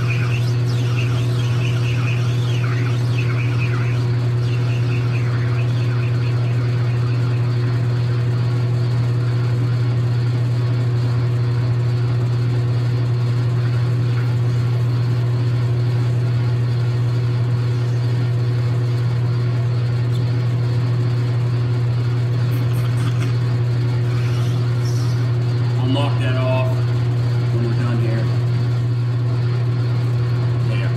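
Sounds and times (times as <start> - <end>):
lathe humming: 0.0 - 30.9.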